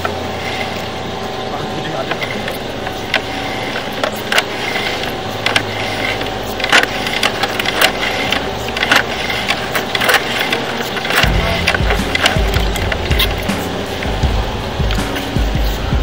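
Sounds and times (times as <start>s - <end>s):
faint steady tones: 0.0s - 16.0s
steady hum: 0.0s - 16.0s
sharp clicks and knocks: 2.0s - 16.0s.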